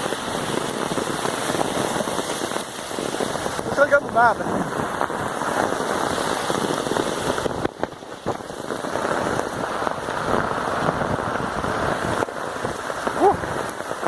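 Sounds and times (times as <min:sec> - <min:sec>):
hailstones clattering: 0:00.0 - 0:14.0
heavy rain roar: 0:00.0 - 0:14.0.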